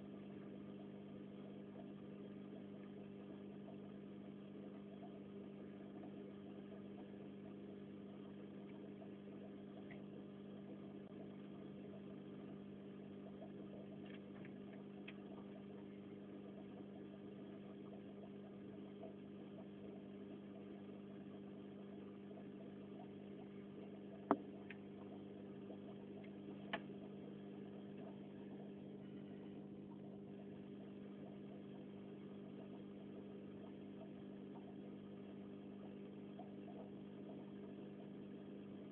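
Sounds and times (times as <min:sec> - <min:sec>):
steady low hum: 0:00.0 - 0:38.9
faint ticks: 0:00.3 - 0:38.9.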